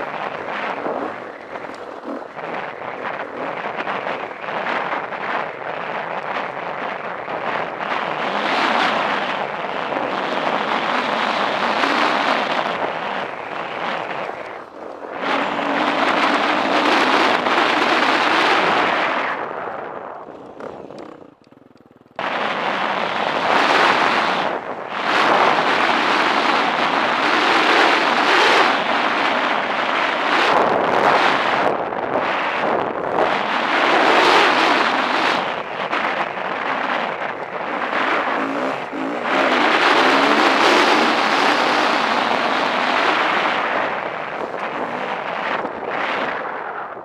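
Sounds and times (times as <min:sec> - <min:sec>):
dirt bike engine running: 0:00.0 - 0:47.0
wind on microphone: 0:00.0 - 0:47.0.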